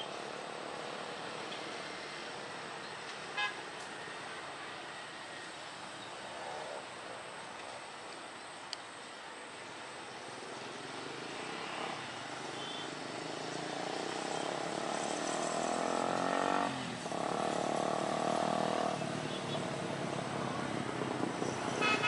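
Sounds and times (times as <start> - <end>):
road vehicles passing: 0.0 - 22.0.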